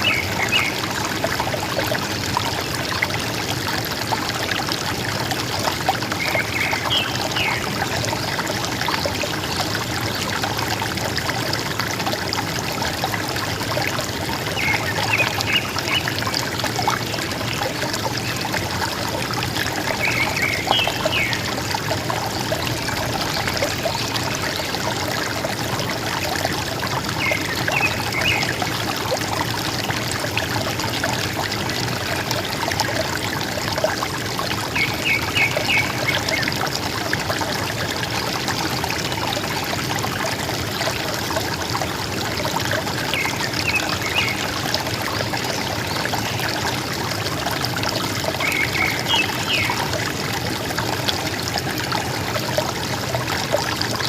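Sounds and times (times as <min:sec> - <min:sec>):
river water flowing and gurgling: 0:00.0 - 0:54.0.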